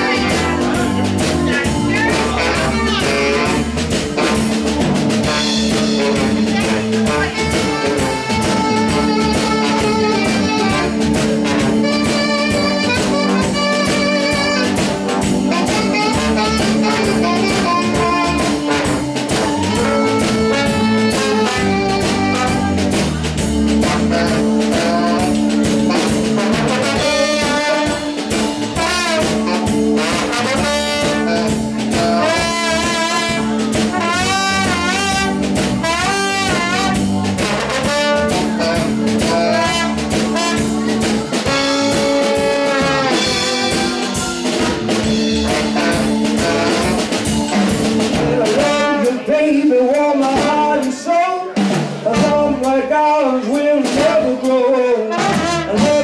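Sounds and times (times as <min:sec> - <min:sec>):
brassy lead melody: 0:00.0 - 0:56.0
drum kit beat: 0:00.0 - 0:56.0
live band music: 0:00.0 - 0:56.0.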